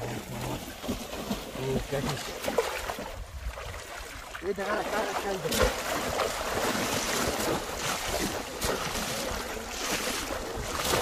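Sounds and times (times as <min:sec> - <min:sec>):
river water splashing: 0:00.0 - 0:11.0.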